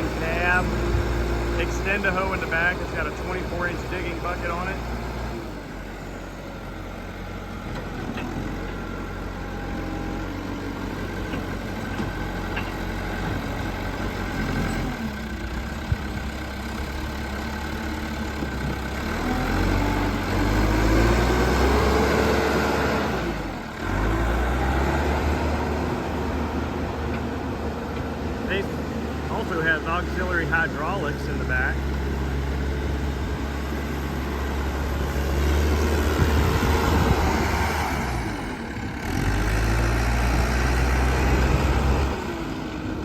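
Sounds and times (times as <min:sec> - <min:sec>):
backhoe diesel engine running: 0:00.0 - 0:43.0.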